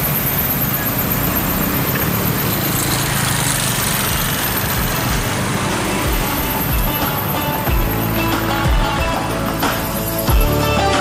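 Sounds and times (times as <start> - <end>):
cars passing: 0.0 - 11.0
vehicle engines running: 0.0 - 11.0.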